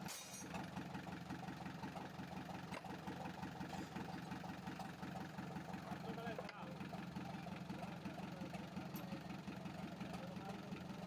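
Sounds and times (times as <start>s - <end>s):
engine idling: 0.6s - 11.0s.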